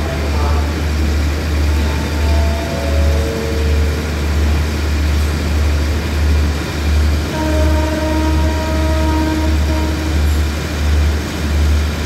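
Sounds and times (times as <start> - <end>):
diesel train idling: 0.0 - 12.0.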